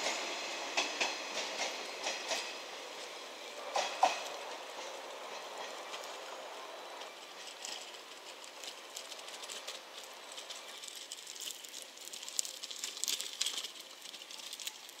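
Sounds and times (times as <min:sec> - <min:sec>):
train wheels clicking on rails: 0:00.0 - 0:15.0.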